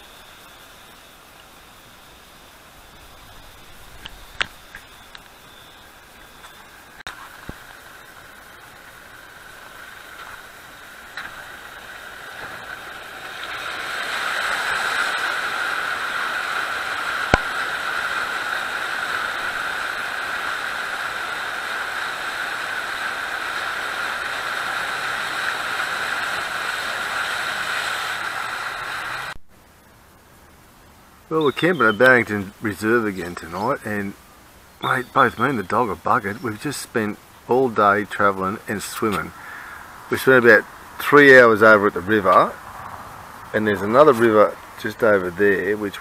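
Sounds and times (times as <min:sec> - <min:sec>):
water rushing and splashing: 0:00.0 - 0:29.4, 0:31.0 - 0:46.0.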